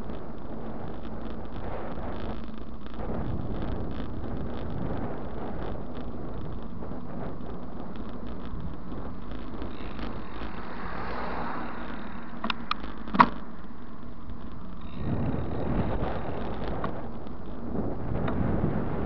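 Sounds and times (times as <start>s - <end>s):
bike rattles and jolts: 0.0s - 19.0s
tyre road rumble: 0.0s - 19.0s
wind noise on microphone: 0.0s - 19.0s.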